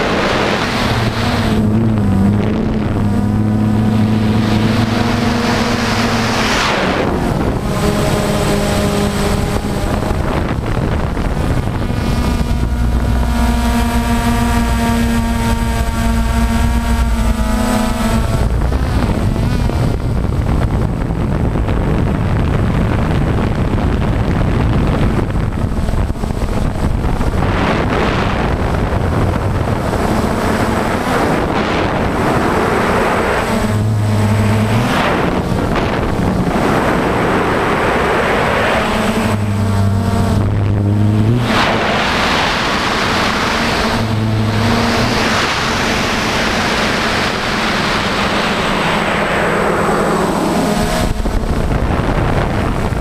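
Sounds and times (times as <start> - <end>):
drone propellers buzzing: 0.0 - 53.0
wind on microphone: 0.0 - 53.0.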